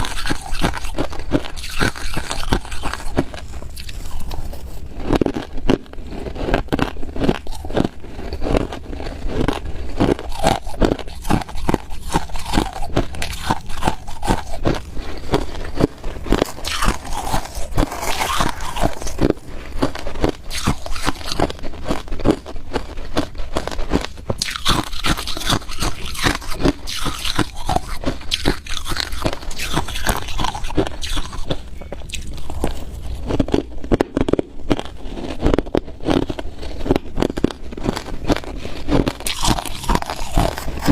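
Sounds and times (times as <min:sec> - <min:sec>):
person chewing ice: 0:00.0 - 0:40.9.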